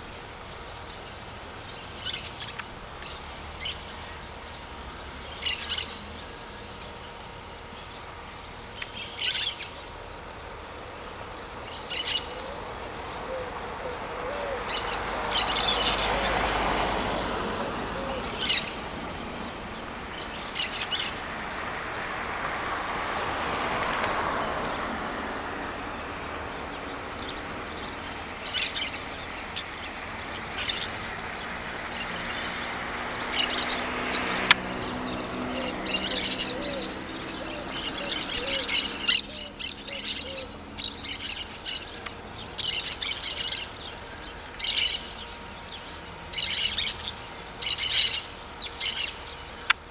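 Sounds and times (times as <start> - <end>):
wild birds chirping: 0.0 - 49.9.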